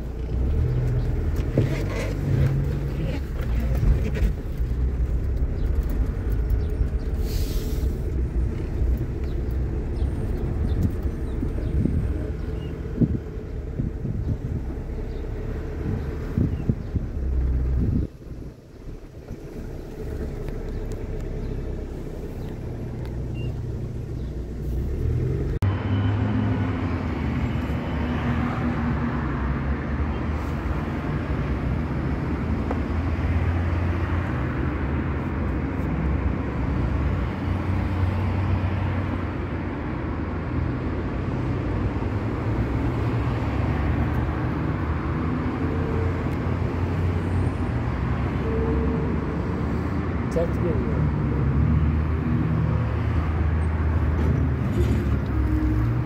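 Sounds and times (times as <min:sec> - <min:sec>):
motor vehicle rumble: 0:00.0 - 0:56.0.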